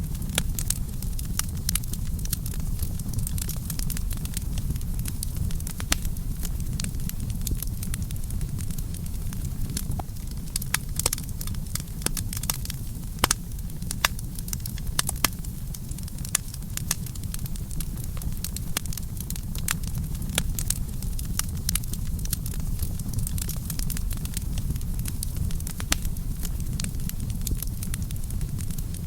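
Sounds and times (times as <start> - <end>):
fire low rumble: 0.0 - 29.0
wood crackling and popping: 0.0 - 29.0.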